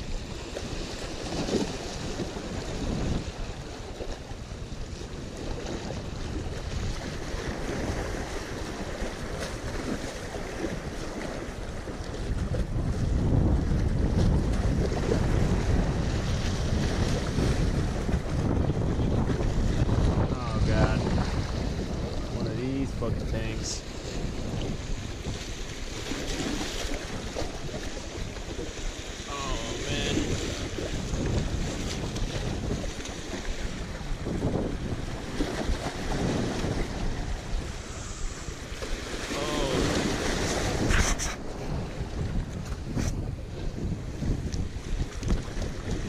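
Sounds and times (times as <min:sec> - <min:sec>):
waves splashing against rocks: 0:00.0 - 0:46.0
wind buffeting microphone: 0:00.0 - 0:46.0.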